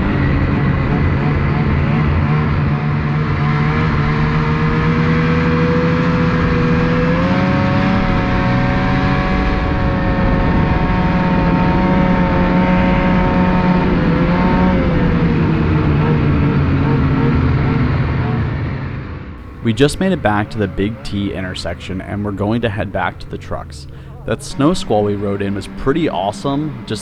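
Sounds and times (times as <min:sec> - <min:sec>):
snowmobile engine running: 0:00.0 - 0:18.6, 0:19.4 - 0:27.0.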